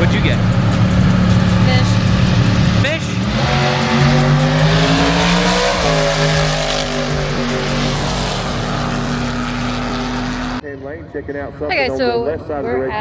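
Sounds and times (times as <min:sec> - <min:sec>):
race car engine at high revs: 0:00.0 - 0:10.6.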